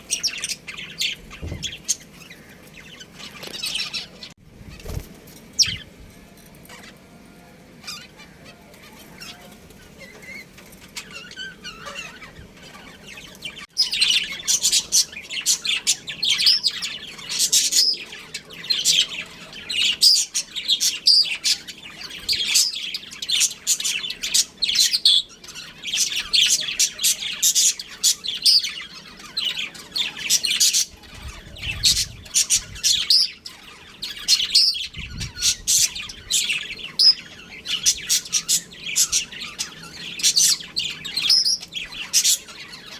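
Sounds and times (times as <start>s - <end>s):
budgerigars chirping and warbling: 0.0s - 6.0s, 6.7s - 42.9s.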